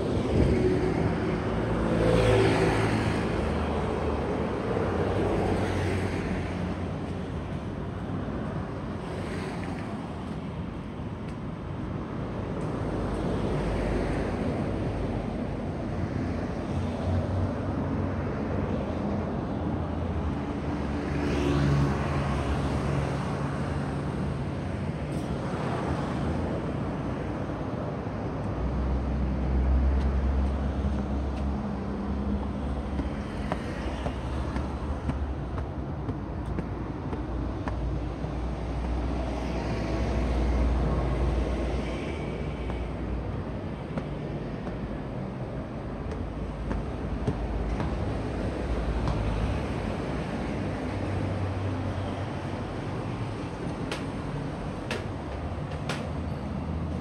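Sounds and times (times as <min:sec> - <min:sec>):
cars passing by: 0:00.0 - 0:57.0
road noise hum: 0:00.0 - 0:57.0.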